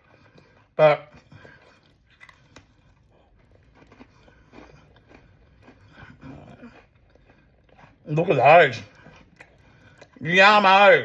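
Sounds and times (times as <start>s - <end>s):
person chewing cookie: 0.0s - 10.5s.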